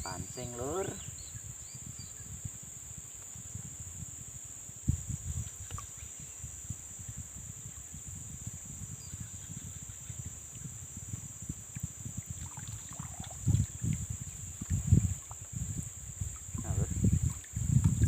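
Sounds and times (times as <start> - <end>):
insects droning: 0.0 - 18.0
low rumbles on microphone: 0.0 - 18.0.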